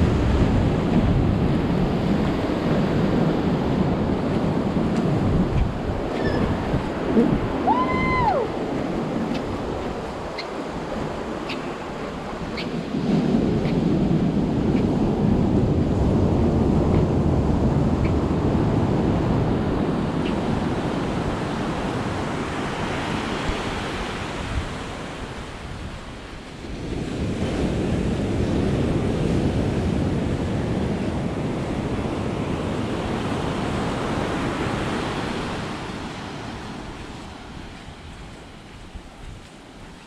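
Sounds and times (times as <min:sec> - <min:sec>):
surf breaking on sand beach: 0:00.0 - 0:40.0.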